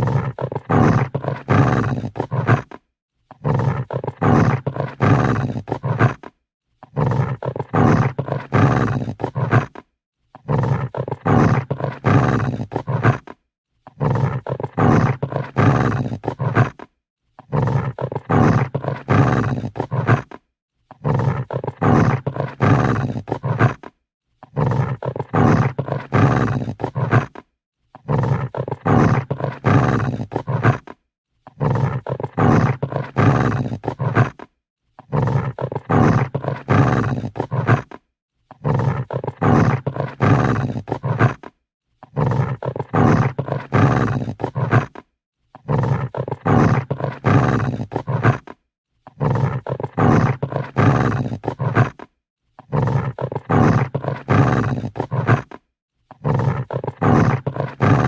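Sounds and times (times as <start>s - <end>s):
dog growling: 0.0s - 58.0s.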